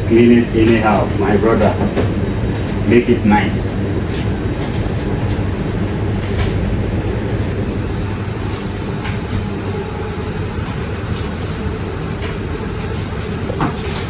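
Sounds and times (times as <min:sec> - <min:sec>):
kitchen machinery rumbling: 0:00.0 - 0:14.0.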